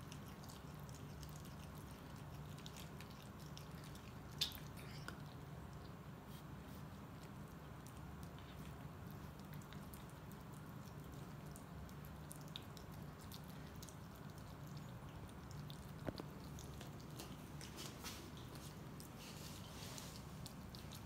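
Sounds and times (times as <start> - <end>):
cats chewing wet food: 0.0 - 21.0.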